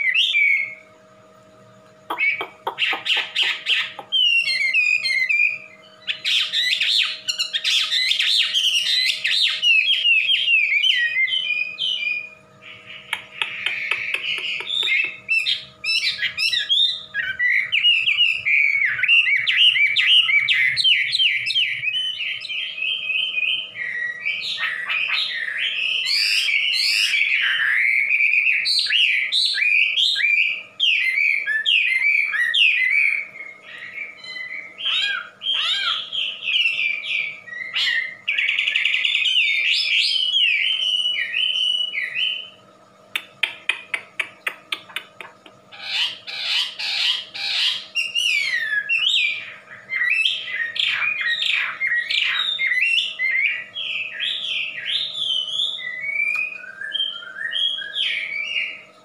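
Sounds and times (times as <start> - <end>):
bird singing whistles and trills: 0.0 - 1.3, 2.1 - 45.1, 45.7 - 58.9.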